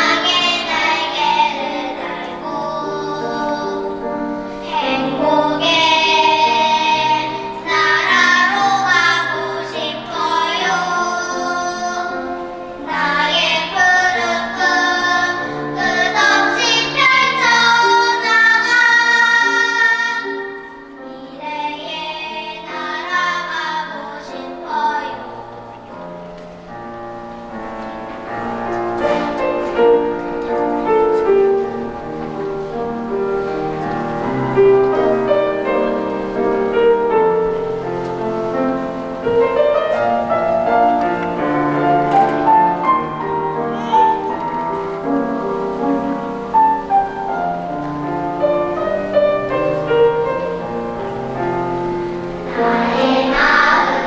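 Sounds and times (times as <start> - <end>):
children's choir singing: 0.0 - 54.0
piano accompaniment: 0.0 - 54.0.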